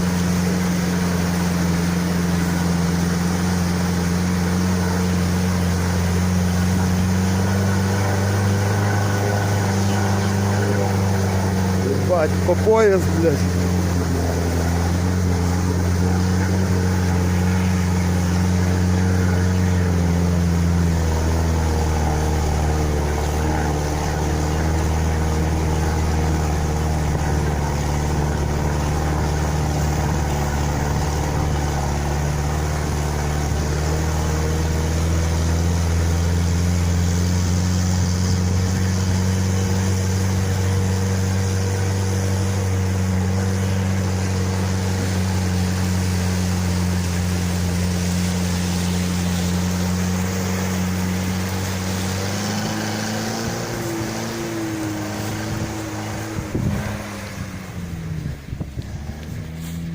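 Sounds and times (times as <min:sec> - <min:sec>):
petrol engine droning: 0:00.0 - 0:59.9.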